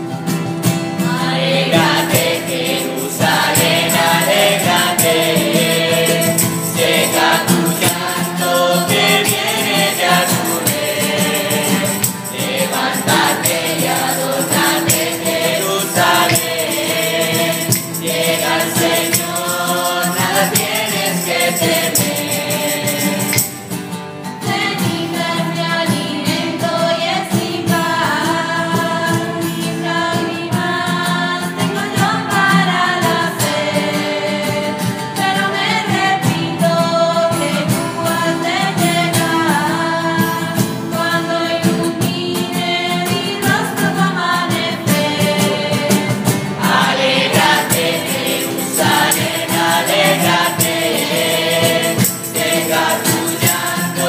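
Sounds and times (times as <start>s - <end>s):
strummed acoustic guitar: 0.0s - 54.0s
tambourine: 0.3s - 54.0s
choir singing a hymn: 1.0s - 23.8s, 24.4s - 54.0s.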